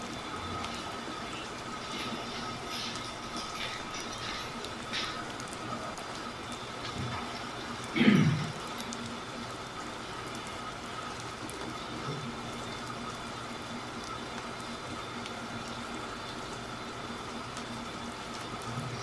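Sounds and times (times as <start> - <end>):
faint steady hum: 0.0 - 19.0
steady hiss: 0.0 - 19.0.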